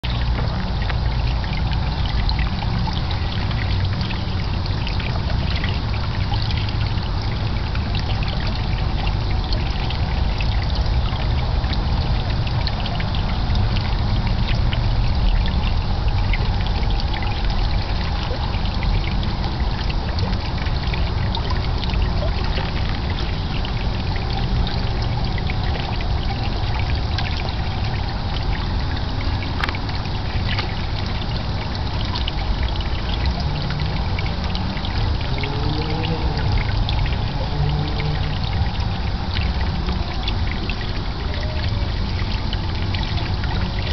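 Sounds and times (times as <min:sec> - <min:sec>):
small water splashes: 0:00.0 - 0:43.9
water trickling into pond: 0:00.0 - 0:43.9.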